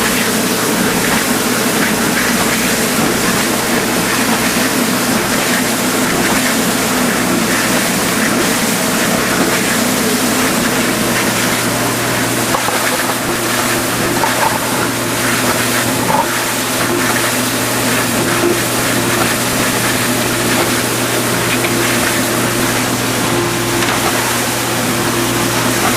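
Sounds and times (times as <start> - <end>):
dishwasher motor and pump hum: 0.0 - 25.9
water spraying and splashing: 0.0 - 25.9.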